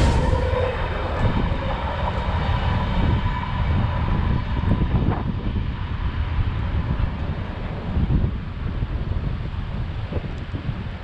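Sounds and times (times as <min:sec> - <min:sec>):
train rumbling: 0:00.0 - 0:11.0
wind buffeting microphone: 0:00.0 - 0:11.0.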